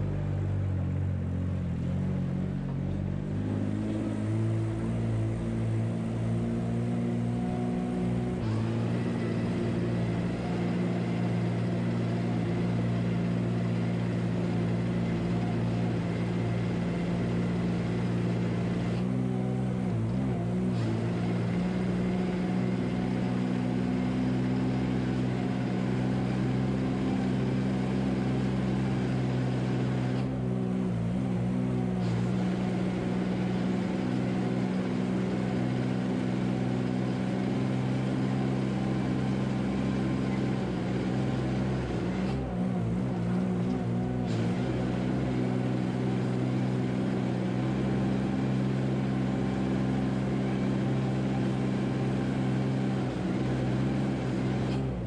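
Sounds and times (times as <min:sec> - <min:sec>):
engine droning: 0:00.0 - 0:55.0.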